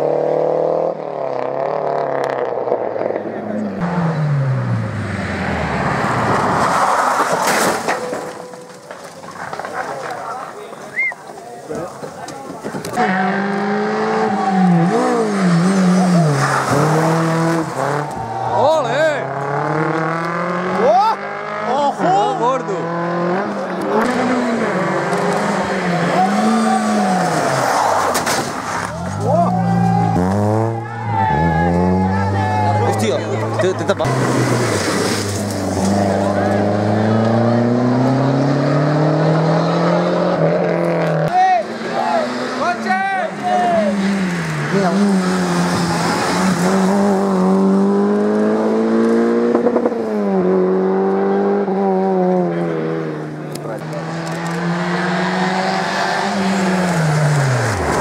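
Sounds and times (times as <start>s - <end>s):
rally car engine revving: 0.0s - 10.5s, 12.6s - 58.0s.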